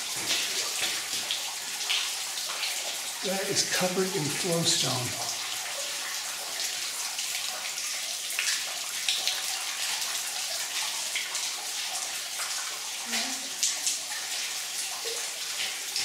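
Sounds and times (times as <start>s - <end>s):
running and splashing water: 0.0s - 16.0s.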